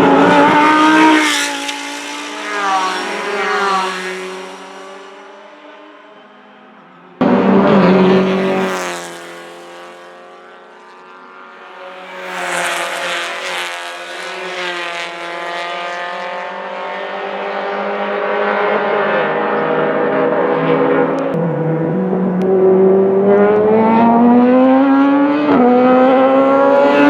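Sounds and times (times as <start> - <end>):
car passing: 0.0 - 27.0
race car engines: 0.0 - 27.0.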